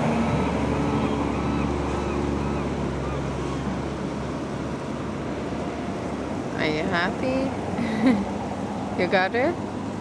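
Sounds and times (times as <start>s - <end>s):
low engine drone: 0.0s - 10.0s.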